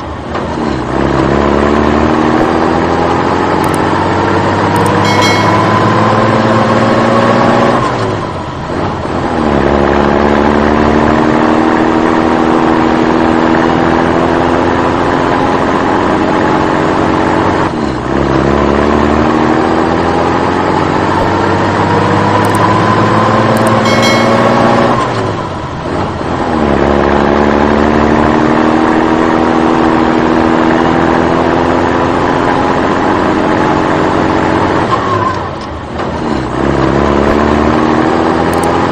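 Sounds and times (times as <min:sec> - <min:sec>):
engine accelerating through gears: 0:00.0 - 0:38.9.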